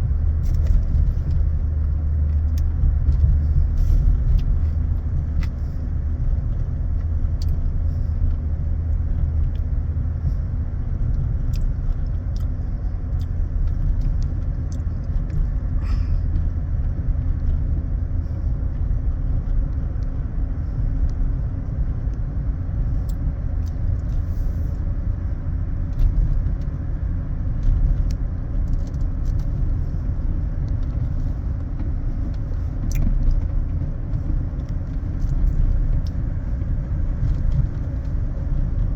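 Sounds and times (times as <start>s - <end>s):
vehicle rumble on road: 0.0s - 38.9s.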